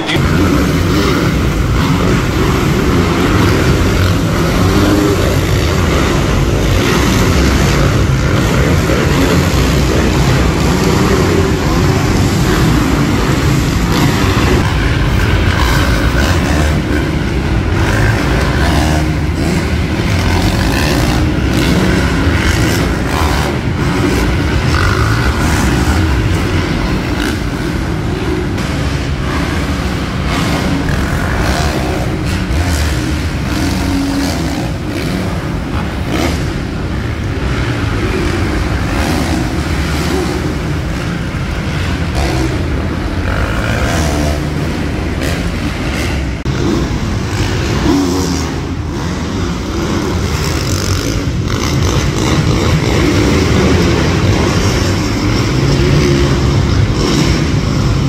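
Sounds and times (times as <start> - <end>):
dirt bike engines: 0.0 - 58.0.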